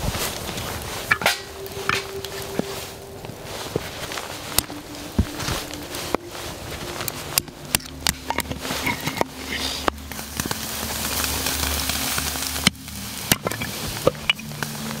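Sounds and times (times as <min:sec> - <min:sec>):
wood fire crackling in stove: 0:00.0 - 0:15.0.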